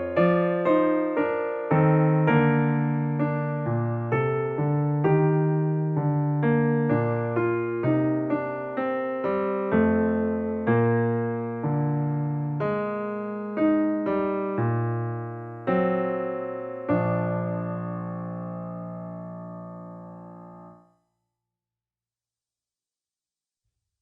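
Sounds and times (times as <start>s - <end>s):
soft slow piano music: 0.0s - 21.0s.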